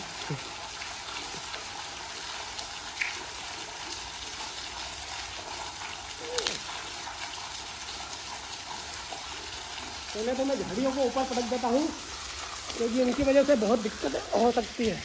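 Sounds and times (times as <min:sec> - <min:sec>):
water stream pouring into water: 0:00.0 - 0:15.0.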